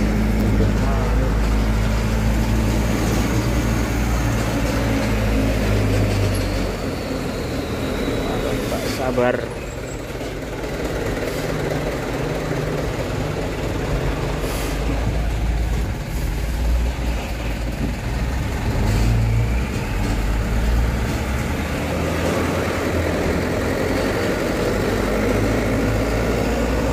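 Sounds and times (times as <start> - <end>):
truck engine running: 0.0 - 8.6, 9.2 - 26.9
road noise: 0.0 - 26.9.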